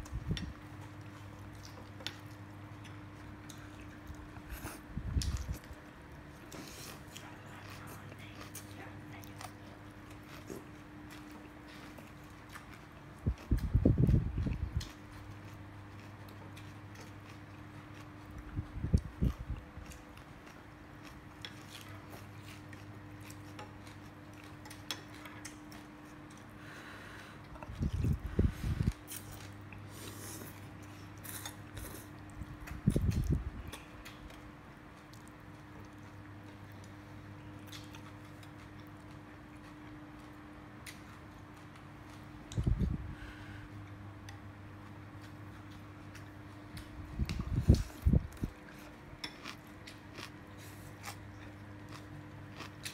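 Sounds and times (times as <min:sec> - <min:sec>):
low electrical hum: 0:00.0 - 0:52.9.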